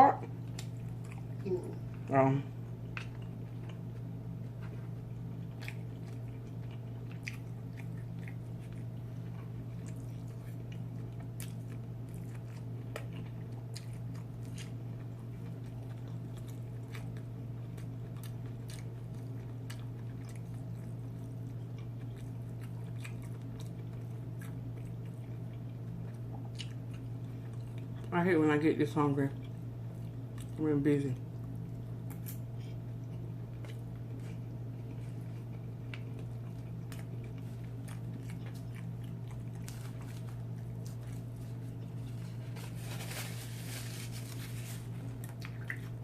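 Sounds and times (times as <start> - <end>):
steady low hum: 0.0 - 46.0
person chewing food: 0.4 - 28.1, 29.4 - 30.6, 31.3 - 46.0.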